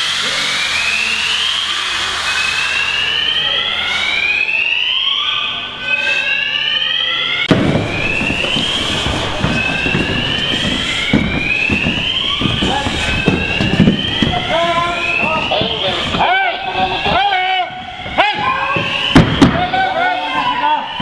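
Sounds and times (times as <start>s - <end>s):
fire alarm rising whoop: 0.0s - 21.0s.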